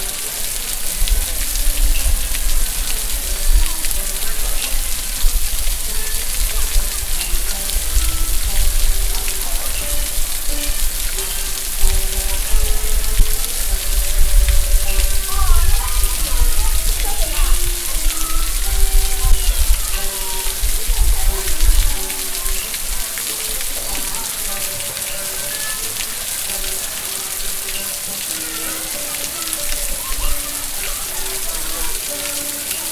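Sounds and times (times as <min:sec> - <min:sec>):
water bubbling: 0:00.0 - 0:32.9
waterfall rushing: 0:00.0 - 0:32.9.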